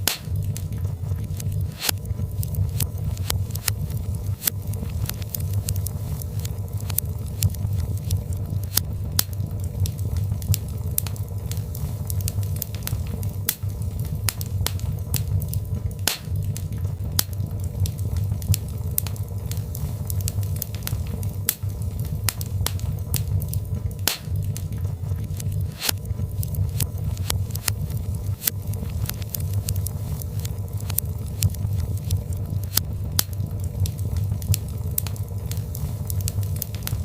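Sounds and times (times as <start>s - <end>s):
fire crackling and popping: 0.0s - 37.0s
fire rumbling in a fireplace: 0.0s - 37.0s.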